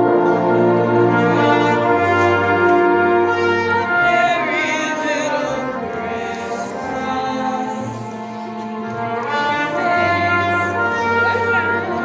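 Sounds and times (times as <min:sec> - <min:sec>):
men's chorus singing a cappella: 0:00.0 - 0:12.0.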